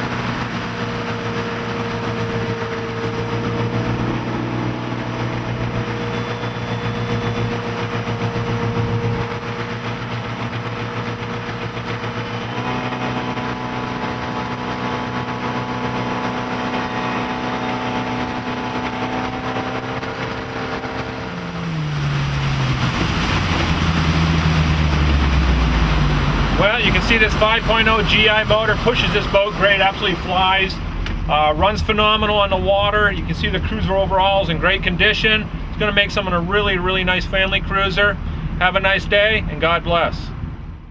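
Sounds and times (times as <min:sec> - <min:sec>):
boat engine running: 0:00.0 - 0:40.9
rush of wind and water: 0:00.0 - 0:40.9.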